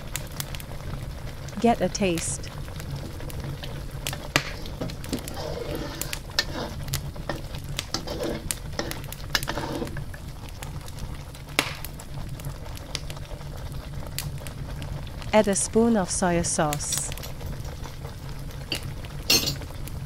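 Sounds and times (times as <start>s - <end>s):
sauce bubbles popping: 0.0s - 20.0s.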